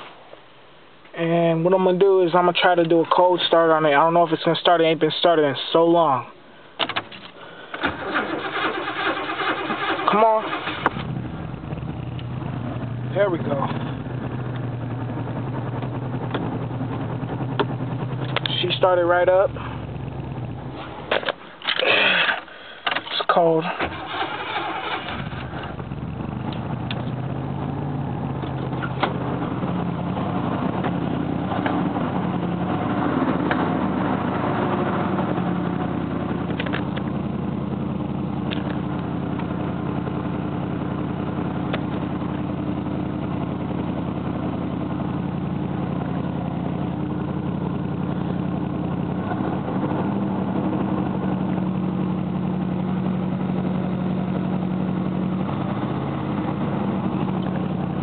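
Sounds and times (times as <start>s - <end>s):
car engine idling: 6.4s - 58.0s.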